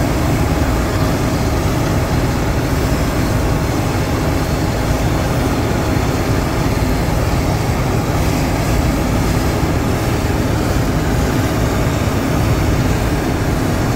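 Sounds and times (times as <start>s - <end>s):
combine harvester running: 0.0s - 13.9s.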